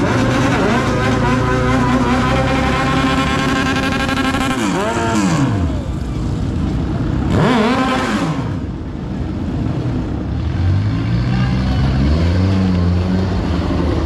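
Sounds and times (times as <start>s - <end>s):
car engine droning: 0.0s - 14.0s
motorcycle engine revving: 0.0s - 14.0s.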